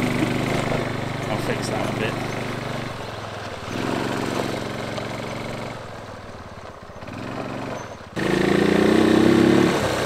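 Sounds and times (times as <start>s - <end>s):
quad bike engine running: 0.0s - 10.0s.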